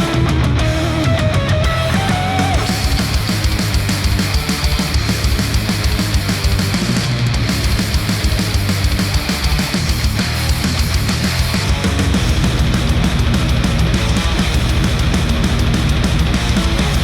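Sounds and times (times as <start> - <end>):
heavy rock music: 0.0 - 17.0.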